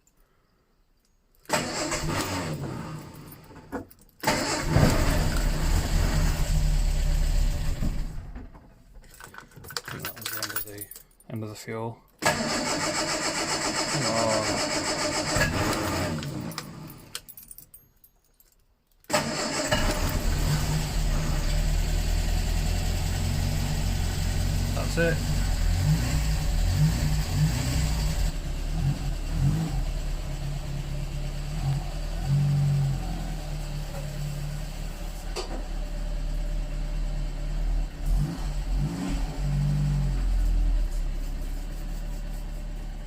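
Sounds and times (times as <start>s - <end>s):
car engine starting and running: 1.4s - 8.8s, 12.2s - 17.3s, 19.1s - 43.0s.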